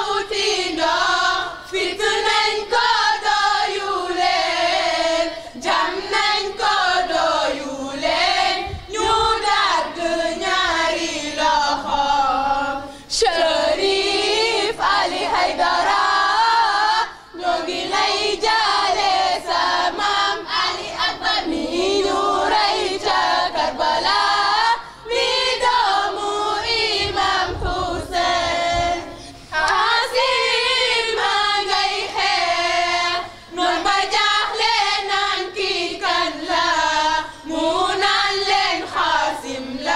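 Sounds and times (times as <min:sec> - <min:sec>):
women and girls chanting: 0:00.0 - 0:39.9.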